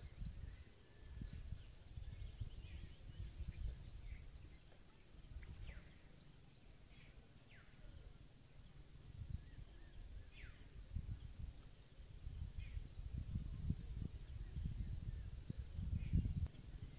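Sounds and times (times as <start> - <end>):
bird calls and chirps: 0.0 - 16.9
low outdoor rumble: 1.2 - 16.9.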